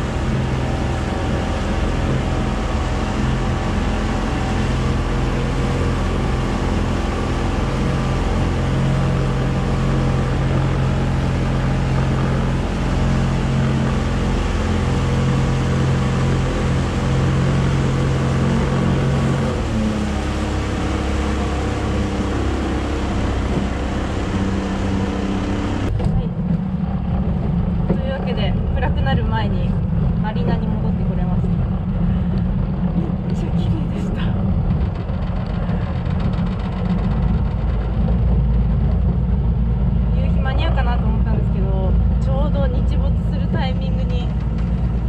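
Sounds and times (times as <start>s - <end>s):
motorboat engine running: 0.0s - 45.0s
wind: 0.0s - 45.0s.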